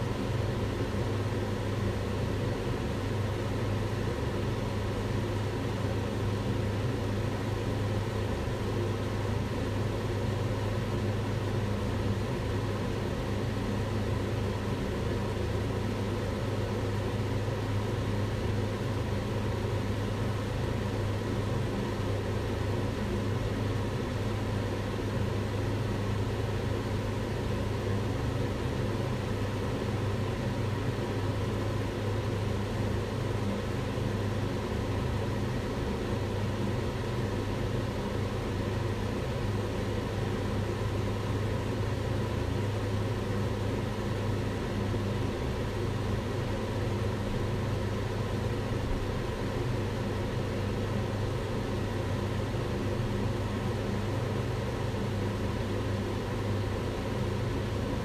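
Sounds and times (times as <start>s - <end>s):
extractor fan running: 0.0s - 58.0s.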